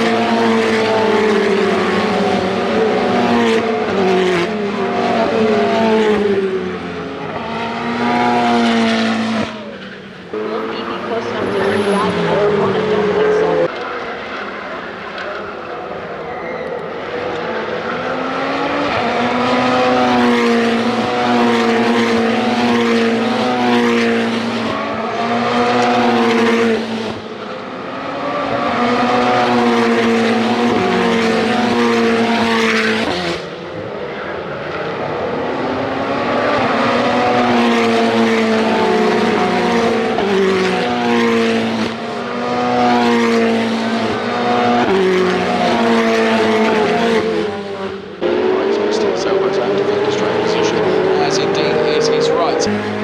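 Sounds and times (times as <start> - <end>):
race cars at full throttle: 0.0 - 53.0.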